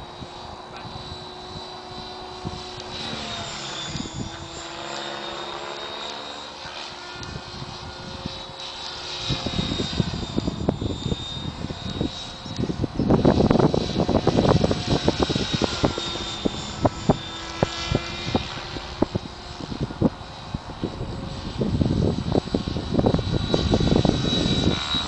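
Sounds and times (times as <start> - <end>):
wind buffeting microphone: 0.0 - 5.2, 6.6 - 25.0
model helicopter motor whine: 0.0 - 25.0.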